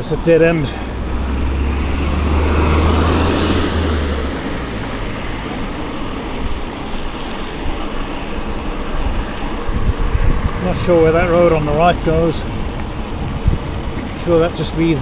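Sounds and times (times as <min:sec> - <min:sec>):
motor vehicle passing by: 0:00.0 - 0:15.0
wind on microphone: 0:00.8 - 0:15.0.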